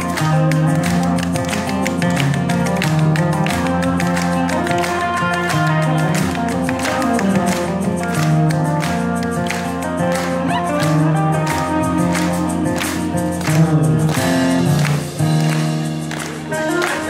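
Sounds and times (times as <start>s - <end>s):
electric guitar picking: 0.0s - 17.0s.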